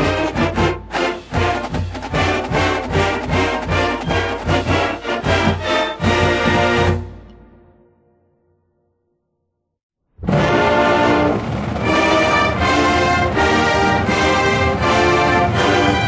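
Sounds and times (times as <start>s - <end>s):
brass band music: 0.0s - 8.1s, 10.2s - 16.0s.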